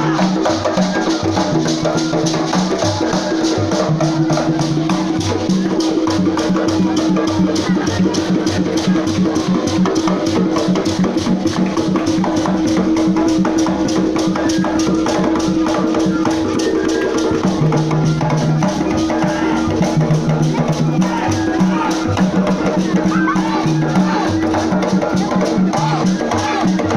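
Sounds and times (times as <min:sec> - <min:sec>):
drums beating quick rhythm: 0:00.0 - 0:26.9.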